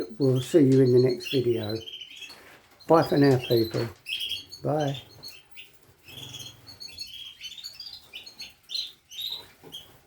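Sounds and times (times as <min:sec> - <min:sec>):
finches and canaries chirping: 0:00.0 - 0:10.0.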